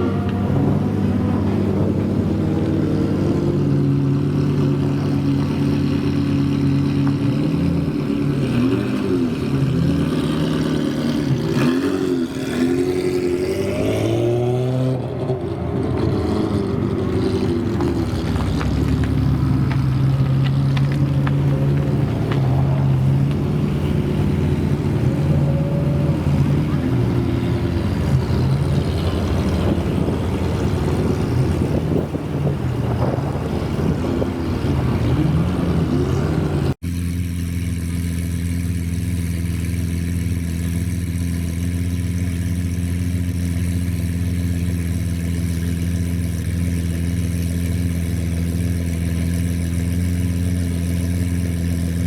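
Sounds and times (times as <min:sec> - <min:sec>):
sports car engine revving: 0:00.0 - 0:52.0.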